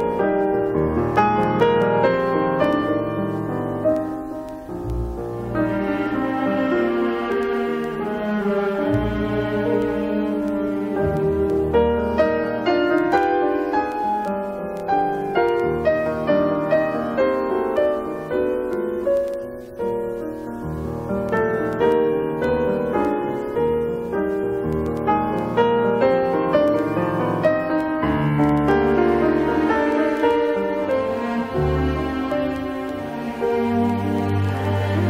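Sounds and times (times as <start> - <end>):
classical piano music: 0.0 - 35.0.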